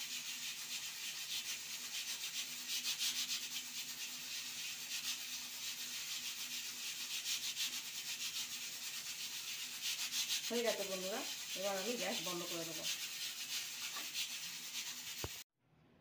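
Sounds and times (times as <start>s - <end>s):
pressure cooker hissing steam: 0.0s - 15.4s.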